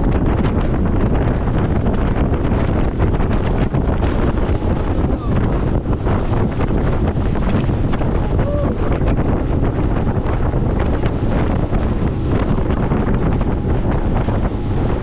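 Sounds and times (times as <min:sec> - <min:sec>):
waves slapping against hull: 0:00.0 - 0:15.0
wind buffeting microphone: 0:00.0 - 0:15.0.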